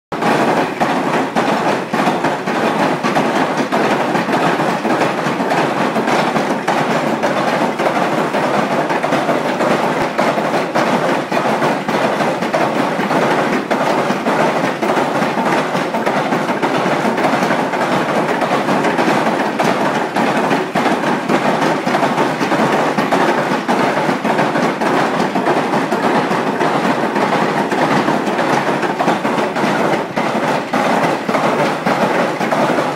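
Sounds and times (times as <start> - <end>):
stamp mill clattering: 0.1 - 32.9.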